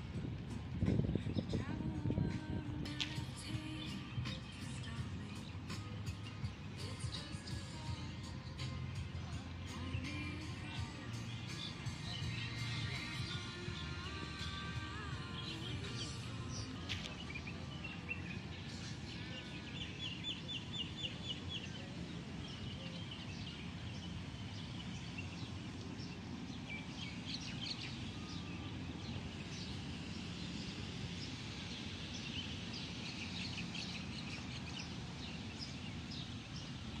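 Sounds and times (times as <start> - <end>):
low outdoor rumble: 0.0 - 37.0
small birds chirping: 3.0 - 37.0.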